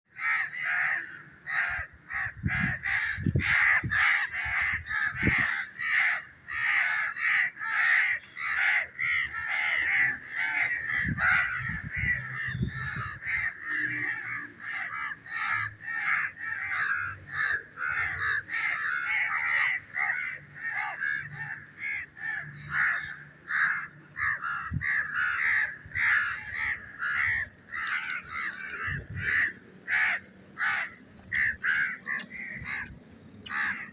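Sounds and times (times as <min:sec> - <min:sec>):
harsh bird calls: 0:00.1 - 0:33.9.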